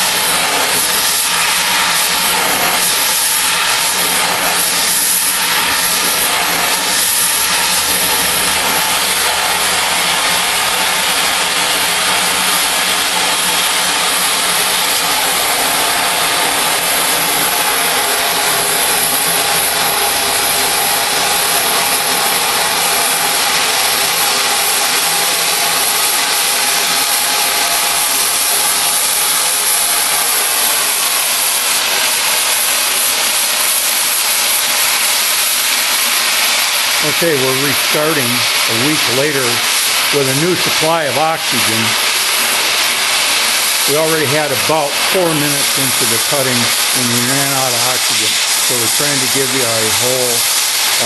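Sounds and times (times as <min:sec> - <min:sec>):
cutting torch hissing: 0:00.0 - 0:51.0.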